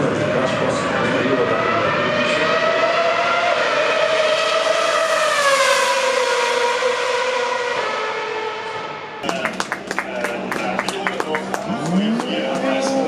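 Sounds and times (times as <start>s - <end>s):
race car engine passing by: 0.0s - 13.0s.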